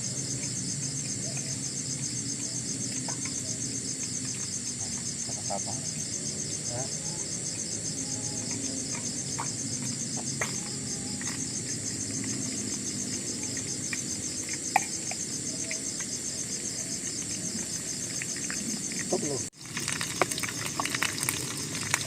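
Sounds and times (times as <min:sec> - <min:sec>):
insects trilling in pulsing chorus: 0:00.0 - 0:22.0.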